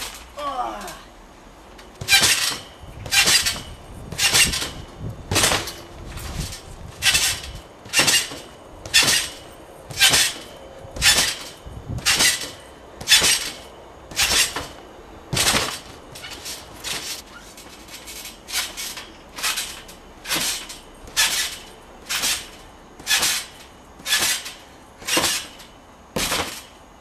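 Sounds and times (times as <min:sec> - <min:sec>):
trampoline springs clanking: 0:00.0 - 0:27.0
trampoline mat thuds: 0:01.9 - 0:26.8.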